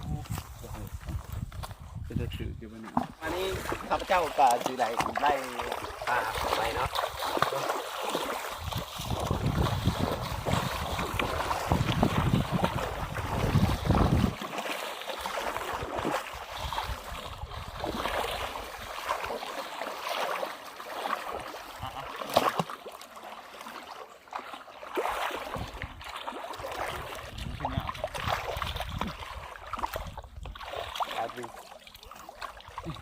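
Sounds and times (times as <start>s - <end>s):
water sloshing and splashing: 0.0s - 33.0s.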